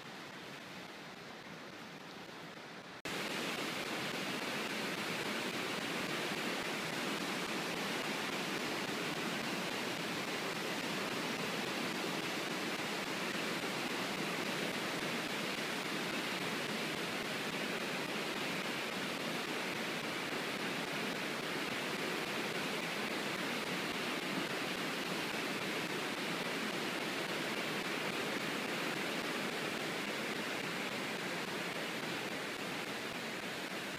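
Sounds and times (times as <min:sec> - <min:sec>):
water rushing through dam gates: 0:00.0 - 0:33.9.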